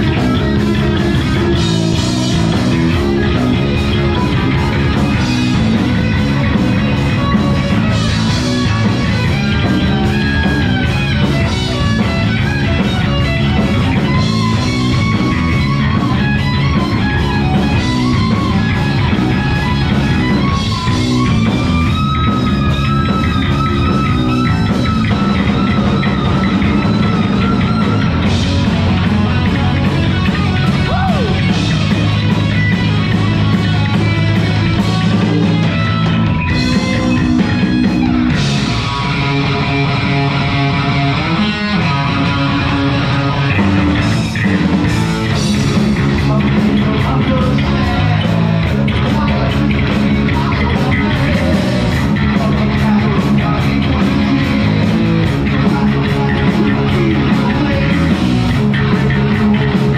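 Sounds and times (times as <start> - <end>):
bass guitar: 0.0 - 59.9
distorted electric guitars: 0.0 - 59.9
heavy metal band playing live: 0.0 - 59.9
steady drum beat: 0.0 - 59.9
wavering lead guitar line: 0.0 - 59.9.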